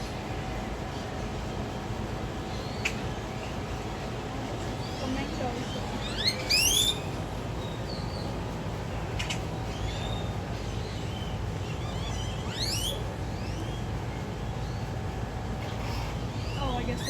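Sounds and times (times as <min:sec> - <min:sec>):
birds calling: 0:00.0 - 0:17.0
steady low hum: 0:00.0 - 0:17.0.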